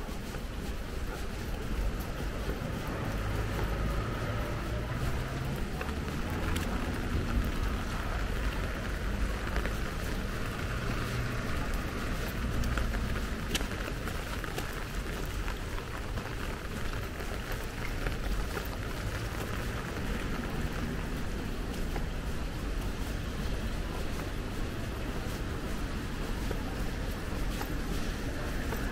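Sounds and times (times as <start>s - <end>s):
light rain on pavement: 0.0s - 28.9s.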